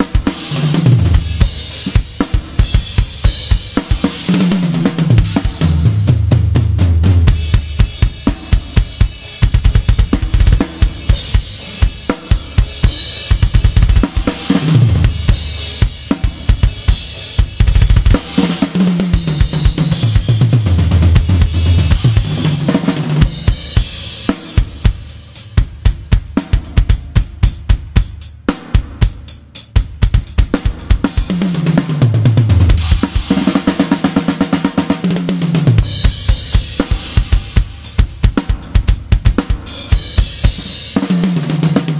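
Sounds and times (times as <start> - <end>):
bass drum: 0.0 - 41.9.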